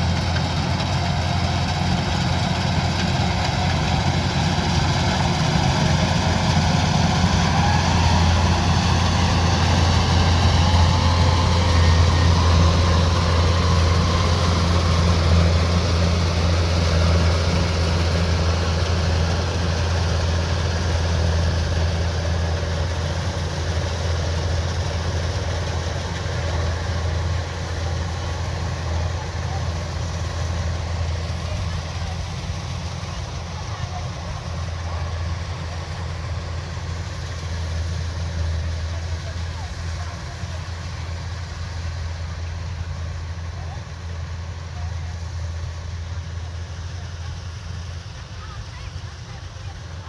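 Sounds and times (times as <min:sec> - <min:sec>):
diesel engine humming: 0:00.0 - 0:50.0.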